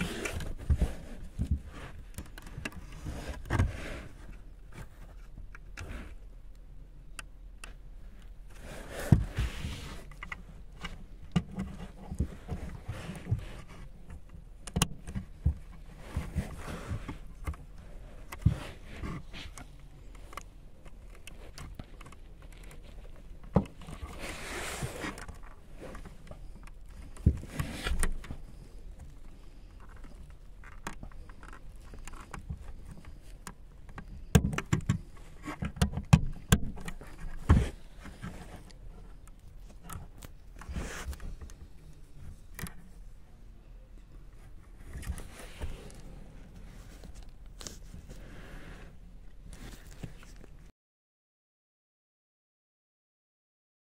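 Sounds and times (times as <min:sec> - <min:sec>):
hard plastic clicking and scraping: 0:00.0 - 0:43.2, 0:44.1 - 0:48.2.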